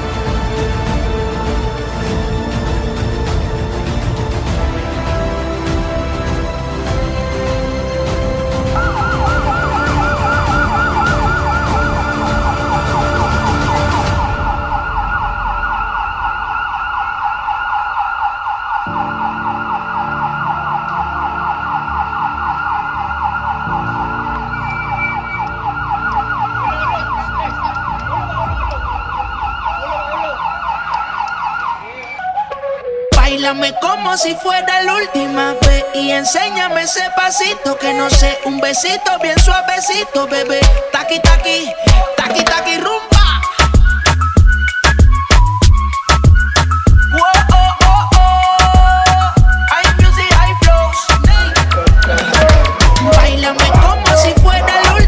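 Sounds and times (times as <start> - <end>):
music: 0.0 - 16.8, 18.8 - 55.0
electronic siren yelping: 8.6 - 55.0.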